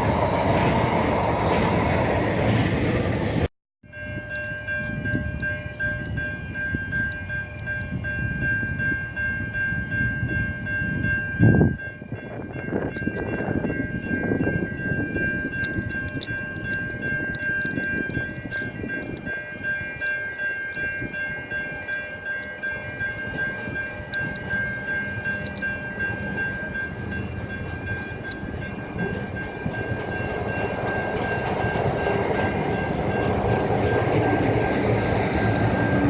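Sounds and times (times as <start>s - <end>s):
train running on rails: 0.0s - 36.0s.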